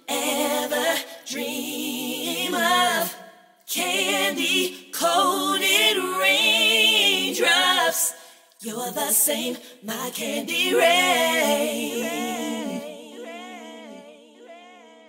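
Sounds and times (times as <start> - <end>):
woman singing a cappella: 0.0 - 15.0.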